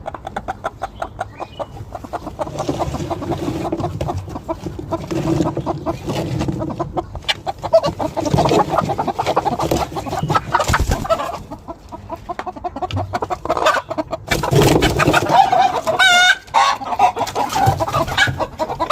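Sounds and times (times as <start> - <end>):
chickens clucking: 0.0 - 18.9
drawn-out chicken call: 0.0 - 18.9.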